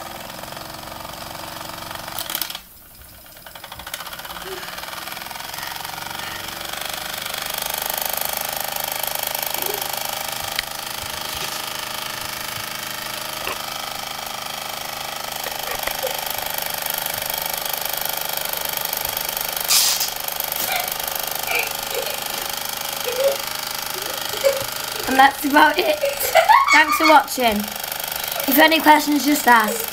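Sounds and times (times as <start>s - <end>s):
toy steam engine hissing and chattering: 0.4s - 29.9s.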